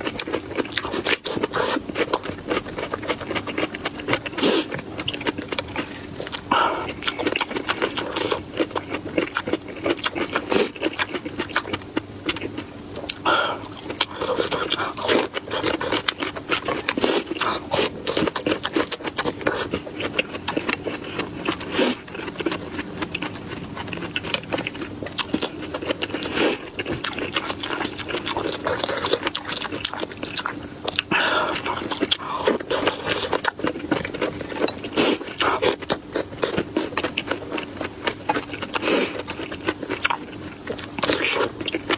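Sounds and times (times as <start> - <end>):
chewing and crunching: 0.0 - 41.9
steady low hum: 0.0 - 41.9.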